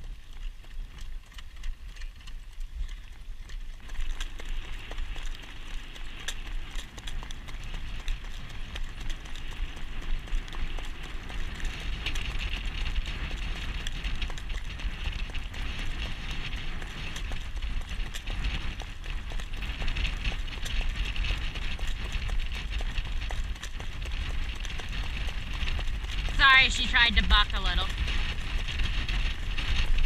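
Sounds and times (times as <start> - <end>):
horse hoofbeats on road: 0.0 - 30.0
low rumble: 4.6 - 30.0.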